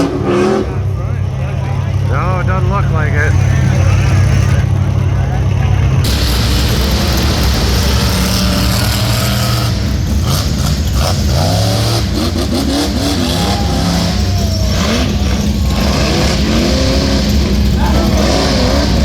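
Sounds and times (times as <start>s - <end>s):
buggy engine revving hard: 0.0s - 19.0s.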